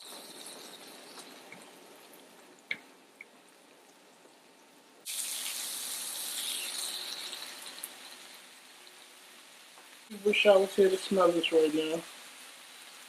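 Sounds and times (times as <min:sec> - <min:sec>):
food sizzling in a hot pan: 0:00.0 - 0:13.0.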